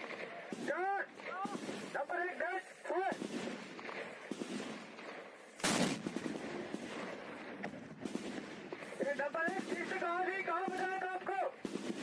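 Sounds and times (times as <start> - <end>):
rifle blast: 0.0 - 12.0.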